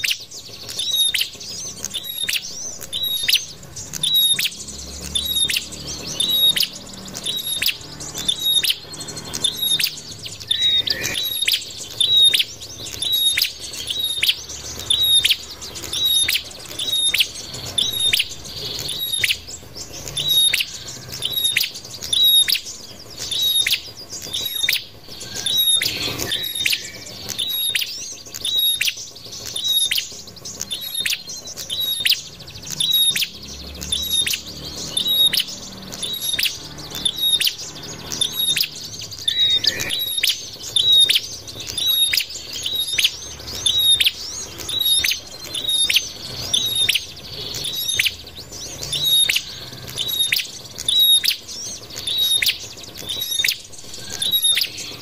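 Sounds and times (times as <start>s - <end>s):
faint bird chirps: 0.0s - 55.0s.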